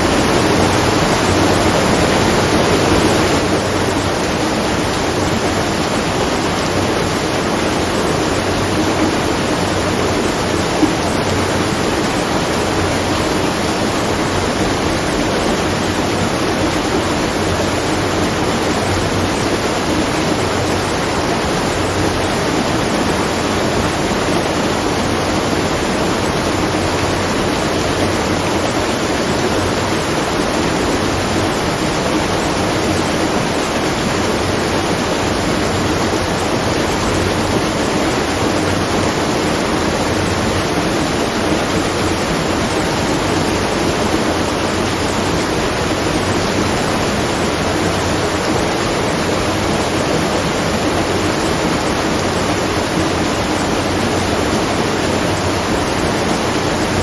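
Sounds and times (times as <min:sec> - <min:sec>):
water rushing and splashing: 0:00.0 - 0:57.0.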